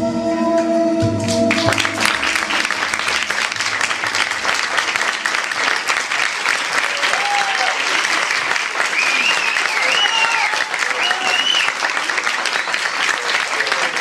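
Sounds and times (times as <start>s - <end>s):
audience applause: 1.2s - 14.0s.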